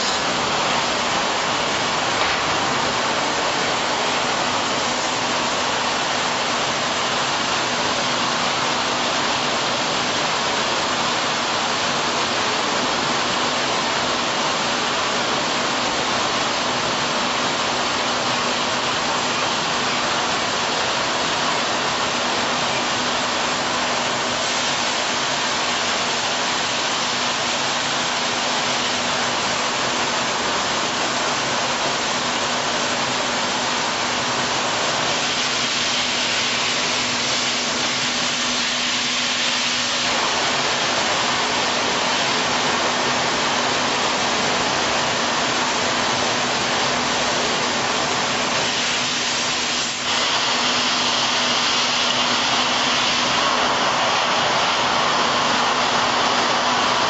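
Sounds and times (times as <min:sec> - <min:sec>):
water-like rushing noise: 0:00.0 - 0:57.0.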